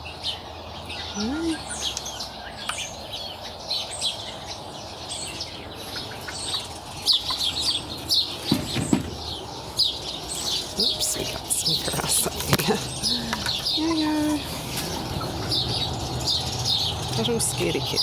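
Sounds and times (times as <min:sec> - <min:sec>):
chicks peeping: 0:00.8 - 0:18.0.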